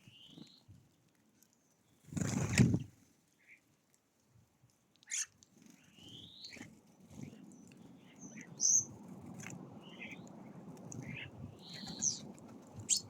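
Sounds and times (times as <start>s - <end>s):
songbirds chirping: 0.0s - 4.1s, 4.9s - 13.0s.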